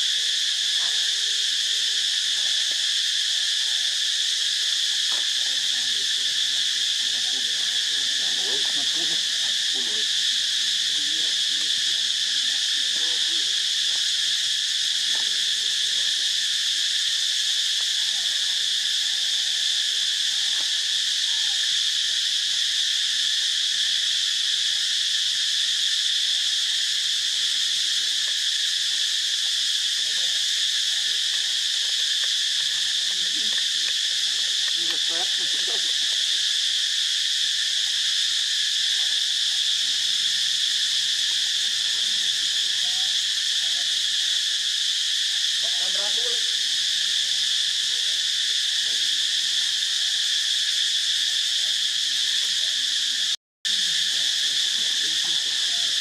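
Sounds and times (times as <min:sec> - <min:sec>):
insect chorus buzzing: 0:00.0 - 0:56.0.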